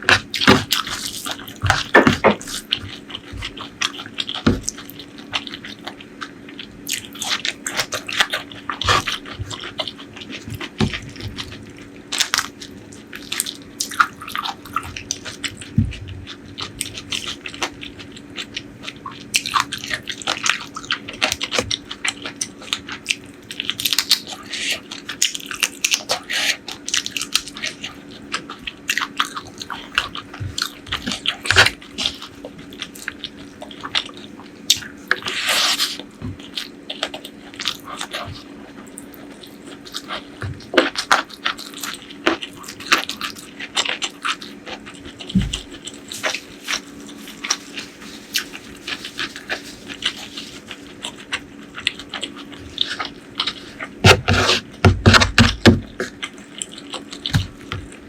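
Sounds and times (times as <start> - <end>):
wet chewing and mouth smacking: 0.0 - 58.0.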